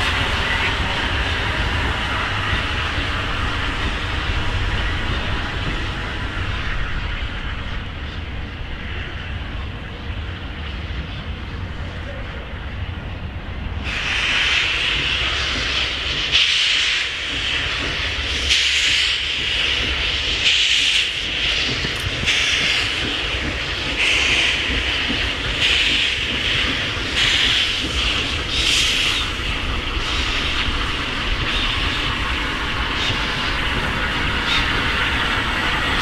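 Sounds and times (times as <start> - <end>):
rhythmic steam hiss: 0.0 - 36.0
steam locomotive low rumble: 0.0 - 36.0.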